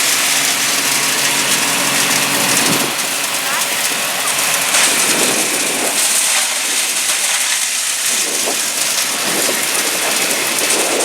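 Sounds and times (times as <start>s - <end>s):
corn sheller machine rattling: 0.0s - 11.0s.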